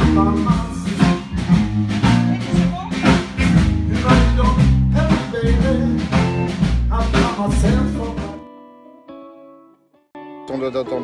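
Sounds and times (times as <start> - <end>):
blues band playing: 0.0 - 11.0.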